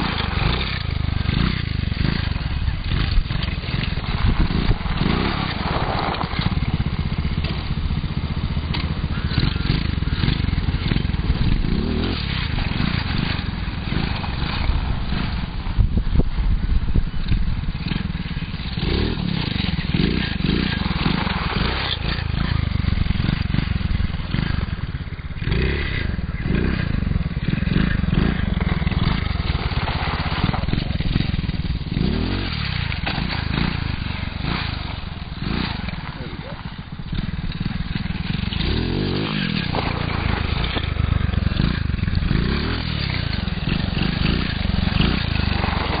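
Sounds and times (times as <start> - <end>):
small engine revving: 0.0 - 16.3, 17.2 - 46.0.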